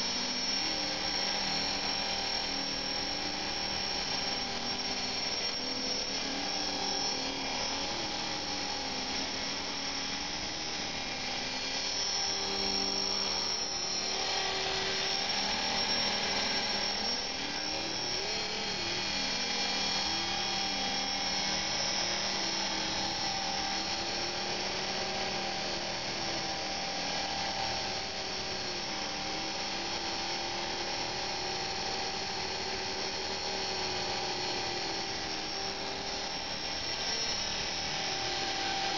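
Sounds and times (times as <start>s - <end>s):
electric motor whine: 0.0s - 38.9s
rotor blades whirring: 0.0s - 38.9s.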